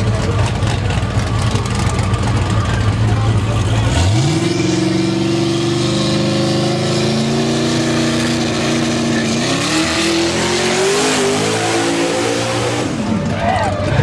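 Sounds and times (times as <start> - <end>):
v eight engine revving: 0.0 - 13.4.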